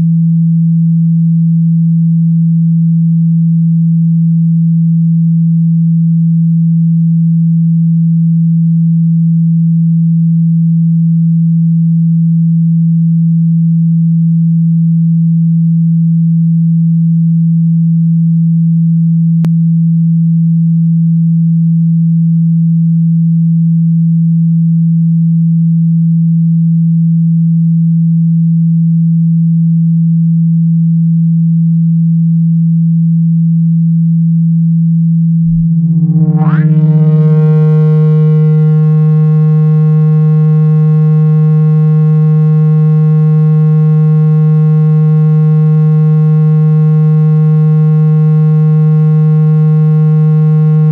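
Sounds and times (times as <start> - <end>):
low steady sine tone: 0.0 - 50.9.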